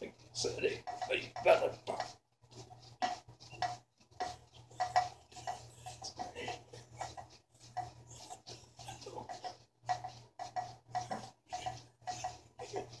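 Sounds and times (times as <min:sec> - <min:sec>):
resistance band rubbing and scraping: 0:00.0 - 0:13.0.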